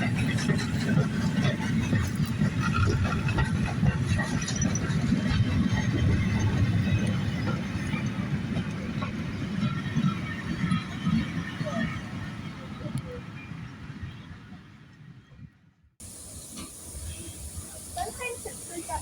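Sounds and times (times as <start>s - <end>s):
train wheels rumbling on rails: 0.0s - 14.7s, 16.0s - 19.0s.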